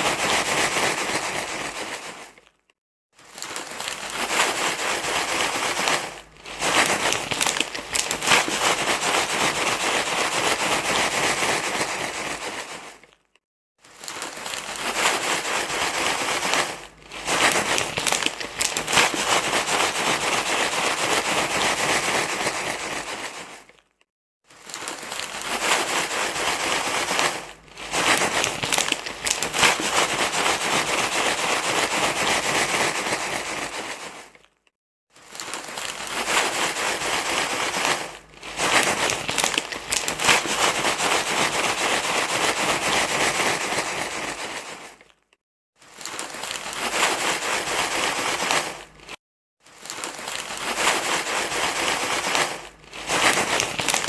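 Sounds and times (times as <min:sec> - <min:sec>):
crackly crinkling rustle: 0:00.0 - 0:54.0.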